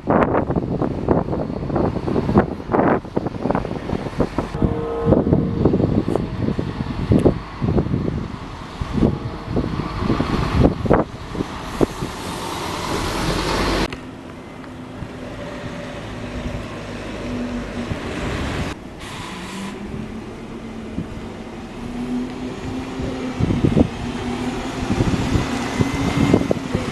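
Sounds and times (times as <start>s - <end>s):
wind buffeting microphone: 0.0s - 13.9s, 14.8s - 18.8s, 19.7s - 26.9s
vehicle running: 0.3s - 26.9s.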